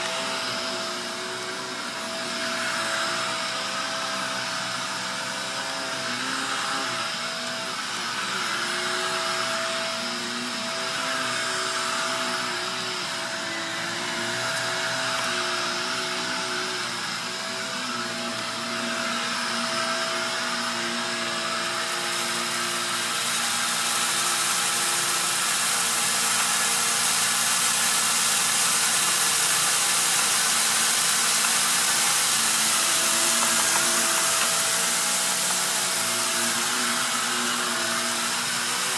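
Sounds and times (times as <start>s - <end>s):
vacuum cleaner motor hum: 0.0s - 38.9s.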